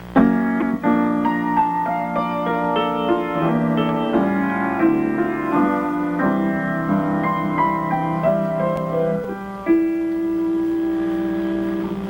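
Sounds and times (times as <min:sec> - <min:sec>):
slow piano melody with chords: 0:00.0 - 0:12.0.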